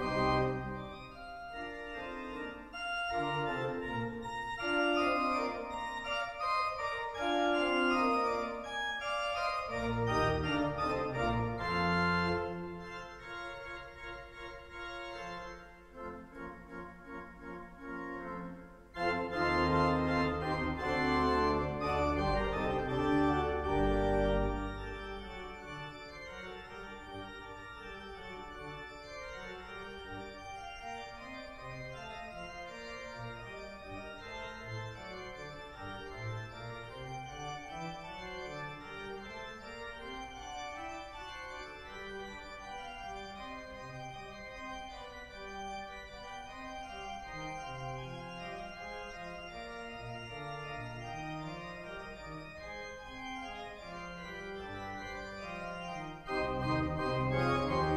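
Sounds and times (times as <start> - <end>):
pipe organ playing: 0.0 - 57.9.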